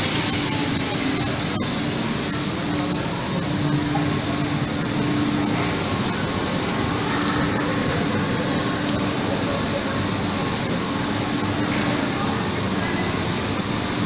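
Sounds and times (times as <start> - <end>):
low machinery hum: 0.0 - 14.0
machinery rushing hiss: 0.0 - 14.0.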